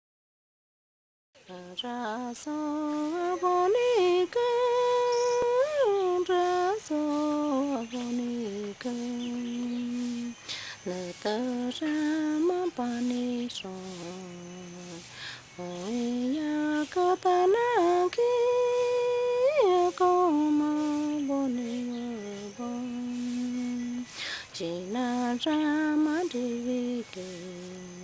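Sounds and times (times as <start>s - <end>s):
woman singing unaccompanied: 1.4s - 28.0s.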